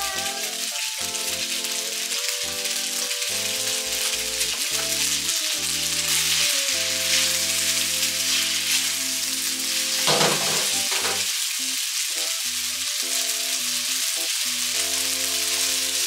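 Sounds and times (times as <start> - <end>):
soft background music: 0.0 - 11.3, 12.1 - 16.0
noodles sizzling in hot oil: 0.0 - 16.0.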